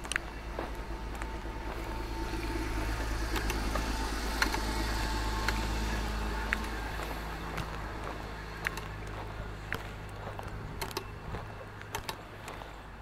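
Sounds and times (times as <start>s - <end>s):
car passing: 0.0s - 13.0s
footsteps on pavement: 0.0s - 13.0s.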